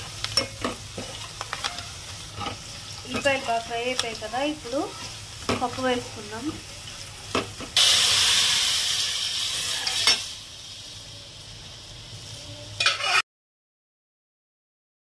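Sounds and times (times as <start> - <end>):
hot oil sizzling: 0.0 - 13.2.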